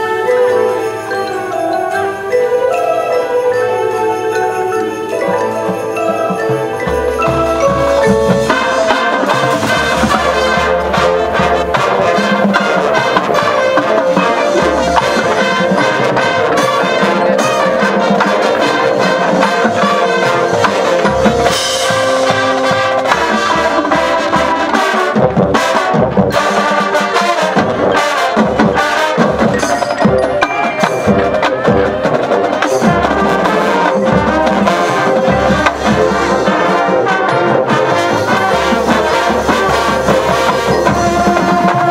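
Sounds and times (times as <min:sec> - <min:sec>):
brass chords: 0:00.0 - 0:41.9
marching drumline: 0:05.0 - 0:41.9.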